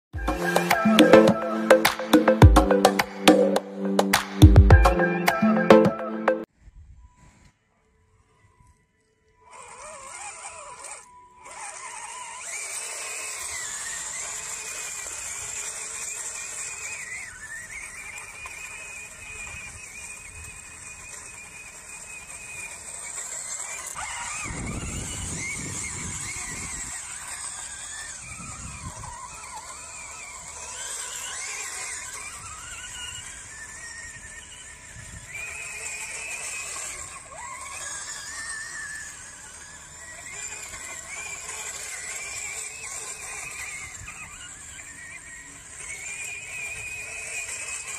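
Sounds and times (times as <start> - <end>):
electric motor and gearbox whining: 0.1 - 6.2, 8.6 - 47.9.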